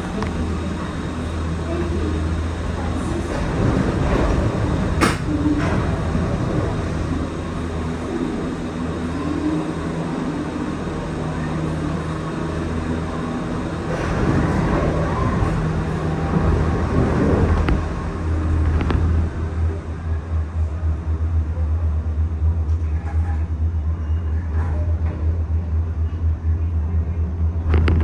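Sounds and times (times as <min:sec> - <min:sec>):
gondola cabin hum and rumble: 0:00.0 - 0:28.0.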